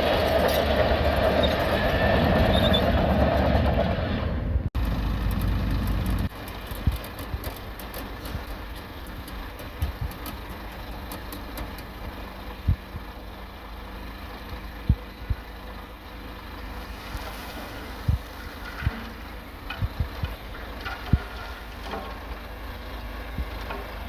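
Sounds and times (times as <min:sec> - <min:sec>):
diesel engine low rumble: 0:00.0 - 0:24.0.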